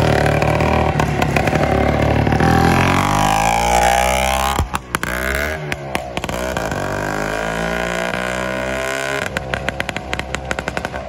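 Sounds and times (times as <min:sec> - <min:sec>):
two-stroke motorcycle engine: 0:00.0 - 0:11.0.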